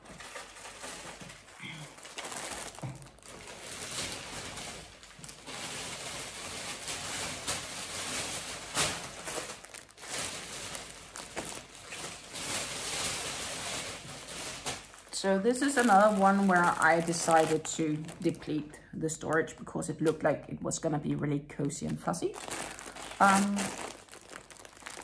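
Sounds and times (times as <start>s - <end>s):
rustling and handling noise: 0.0s - 20.2s, 21.6s - 25.0s
sharp crackles: 0.3s - 18.5s, 21.9s - 25.0s.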